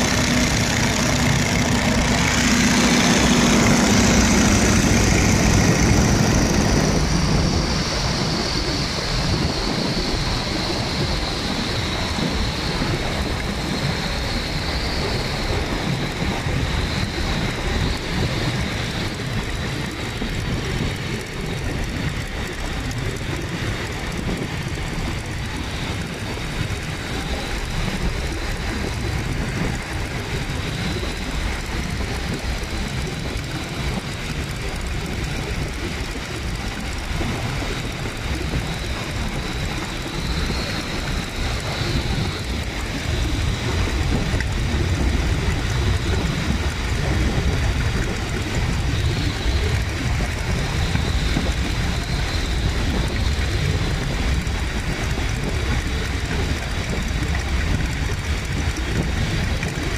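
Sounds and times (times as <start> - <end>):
heavy wind rush: 0.0 - 59.9
propeller plane engine running: 0.0 - 59.9.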